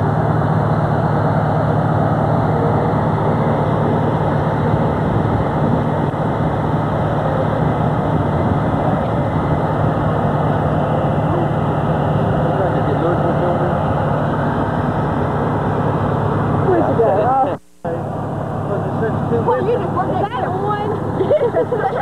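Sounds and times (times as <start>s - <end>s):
fire engine motor running: 0.0s - 22.0s.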